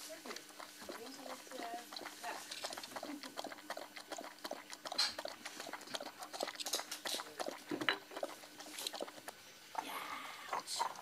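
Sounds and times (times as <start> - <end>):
dog lapping water: 0.0 - 9.9, 10.6 - 11.0.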